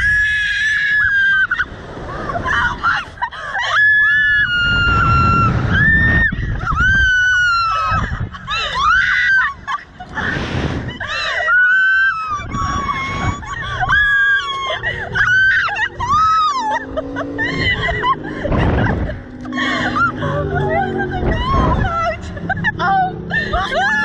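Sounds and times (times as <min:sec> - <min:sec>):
low wind rumble: 0:00.0 - 0:24.0
women screaming: 0:00.0 - 0:24.0
women laughing: 0:02.1 - 0:04.3, 0:06.3 - 0:24.0.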